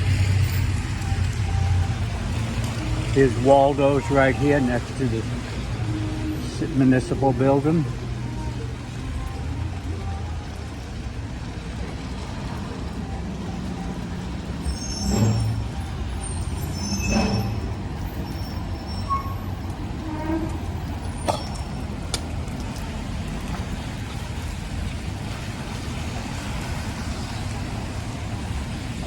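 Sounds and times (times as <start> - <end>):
traffic engine rumble: 0.0 - 29.0
vehicles passing on wet road: 0.0 - 29.0.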